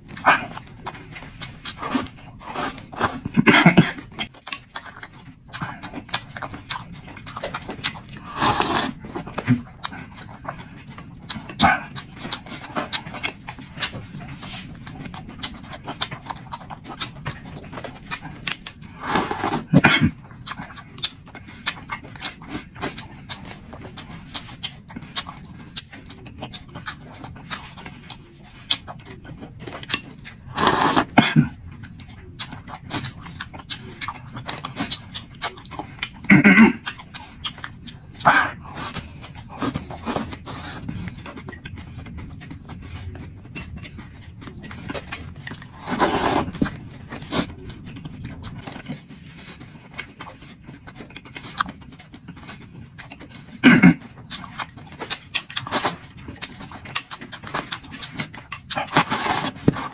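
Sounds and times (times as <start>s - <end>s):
person chewing: 0.0s - 59.9s.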